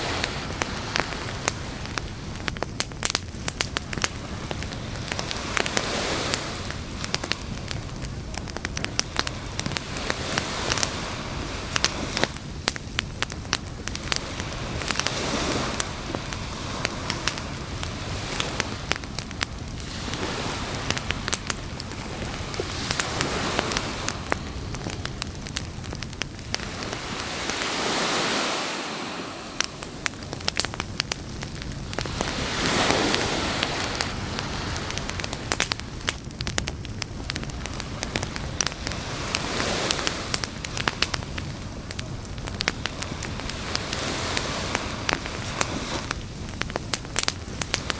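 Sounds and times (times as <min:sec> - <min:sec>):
campfire crackling: 0:00.0 - 0:47.9
waves washing on beach: 0:00.0 - 0:47.9.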